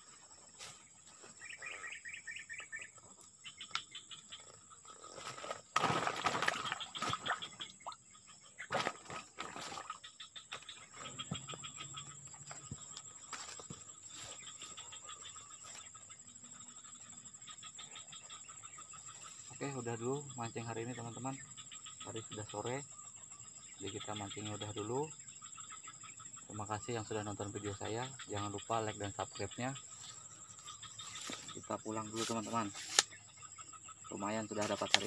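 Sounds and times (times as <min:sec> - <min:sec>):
insects buzzing and chirping: 0:00.0 - 0:35.0.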